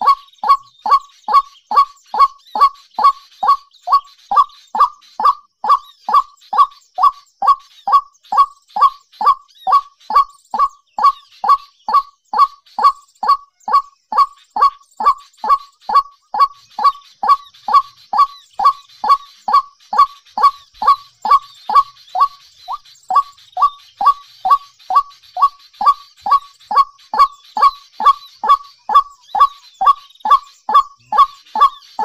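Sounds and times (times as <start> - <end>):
faint higher bird chirps: 0.0 - 32.0.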